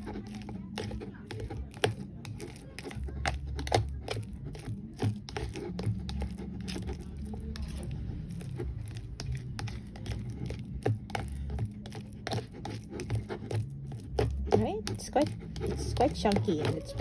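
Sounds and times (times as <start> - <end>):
banana mashing scraping: 0.0 - 17.0.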